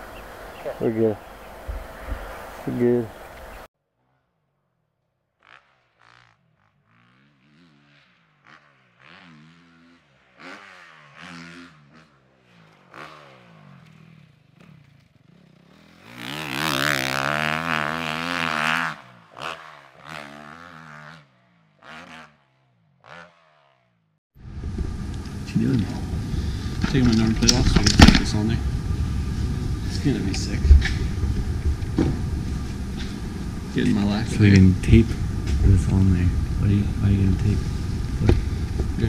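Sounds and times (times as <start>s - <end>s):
dirt bike engine revving: 5.4s - 39.0s.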